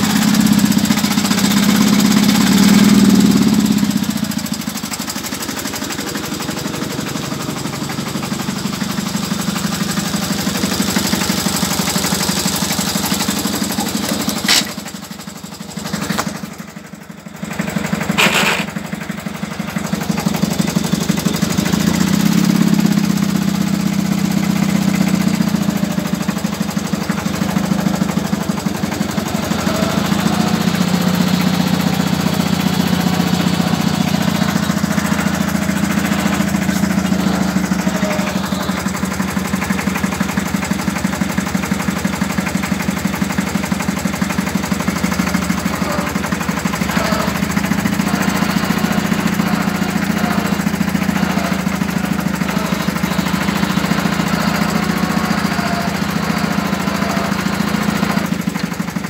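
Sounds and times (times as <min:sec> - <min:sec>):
forklift engine chugging: 0:00.0 - 0:59.0.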